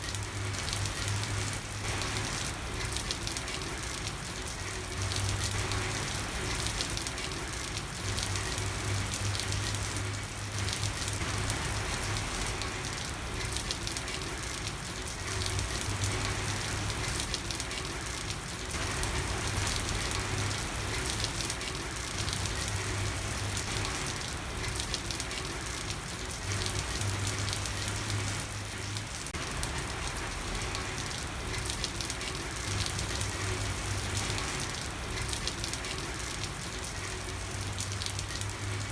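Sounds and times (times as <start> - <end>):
rain pattering on street: 0.0 - 38.9.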